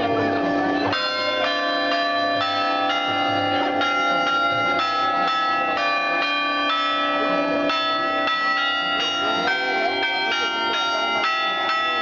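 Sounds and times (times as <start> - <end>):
church bells pealing: 0.0 - 12.0.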